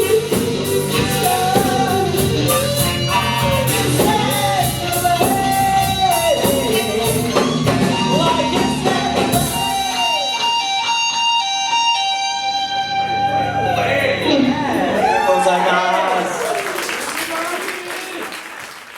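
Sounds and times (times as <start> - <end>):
drums: 0.0 - 15.3
bass: 0.0 - 15.5
electric guitar lead: 0.0 - 15.5.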